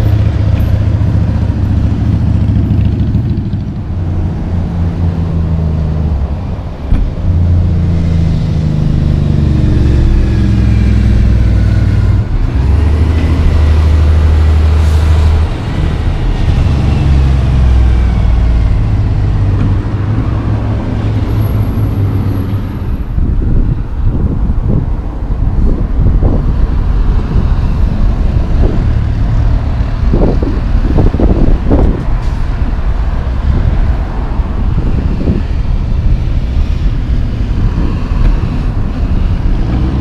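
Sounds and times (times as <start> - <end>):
diesel truck accelerating past: 0.0 - 40.0.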